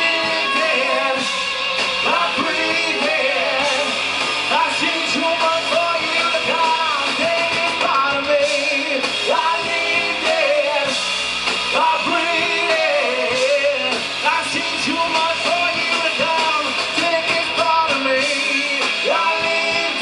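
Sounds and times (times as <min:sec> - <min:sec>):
person singing: 0:00.0 - 0:11.0, 0:11.7 - 0:20.0
rock band playing: 0:00.0 - 0:20.0.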